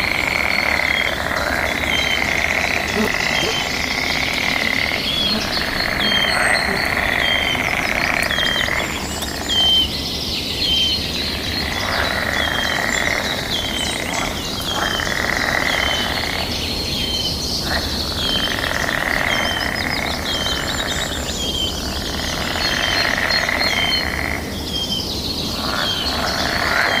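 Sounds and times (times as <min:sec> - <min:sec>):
high insect drone: 0:00.0 - 0:24.5
bird calls: 0:00.0 - 0:27.0
frogs calling: 0:00.0 - 0:27.0.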